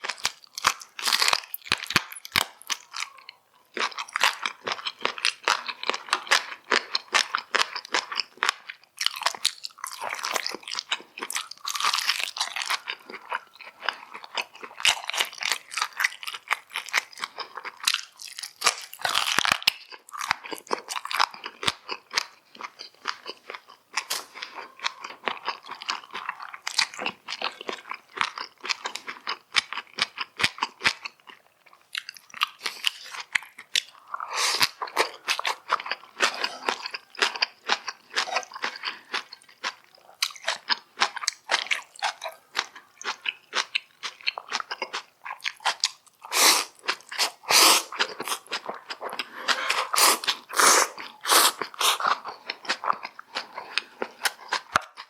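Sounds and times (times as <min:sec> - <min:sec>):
chewing and biting food: 0:00.0 - 0:55.0.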